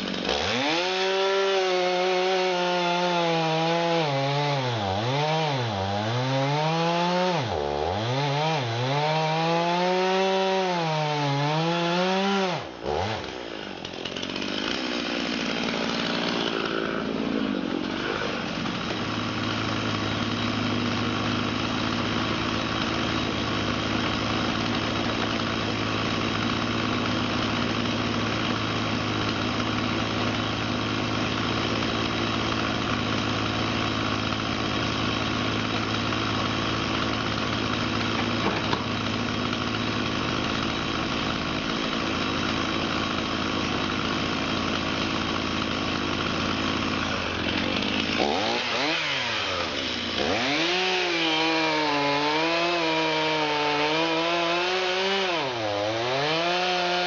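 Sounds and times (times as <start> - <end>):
sawmill engine labouring: 0.0 - 57.0.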